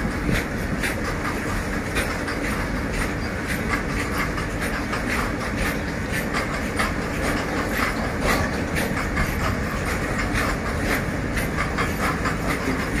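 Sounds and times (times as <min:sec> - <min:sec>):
train wheels rumbling on rails: 0:00.0 - 0:13.0
wheels clicking over rail joints: 0:00.0 - 0:13.0.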